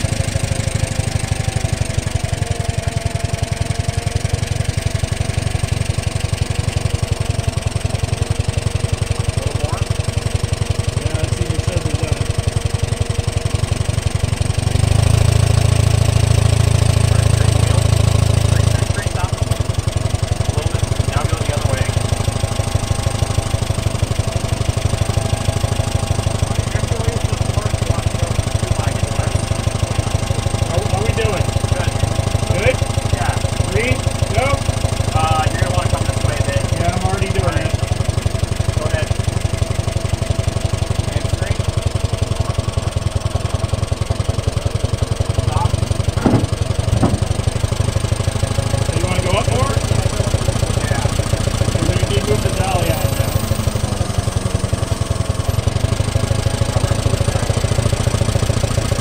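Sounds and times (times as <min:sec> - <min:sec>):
forklift engine idling: 0:00.0 - 0:59.0.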